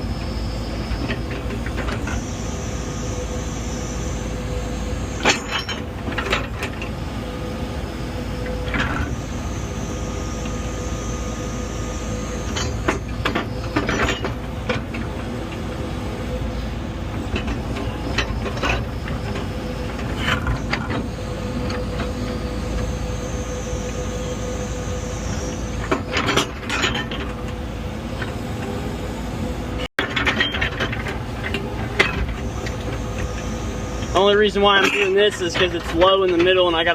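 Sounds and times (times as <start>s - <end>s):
earthmoving machine whining: 0.0s - 36.9s.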